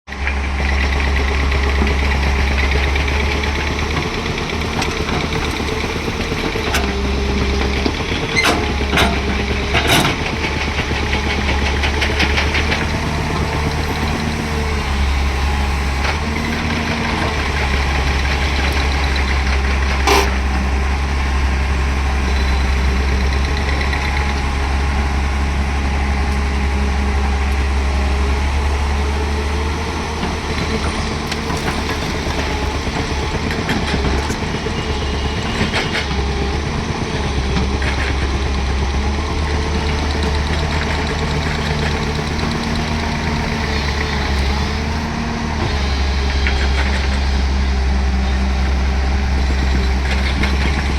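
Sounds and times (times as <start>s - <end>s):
diesel engine running: 0.1s - 50.9s.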